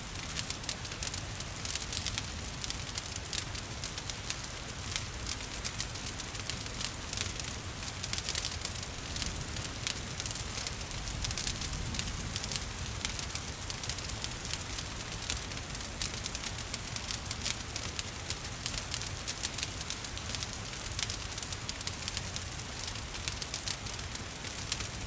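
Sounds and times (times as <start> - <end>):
gentle rain patter: 0.0 - 25.0
wood fire crackling and popping: 0.0 - 25.0.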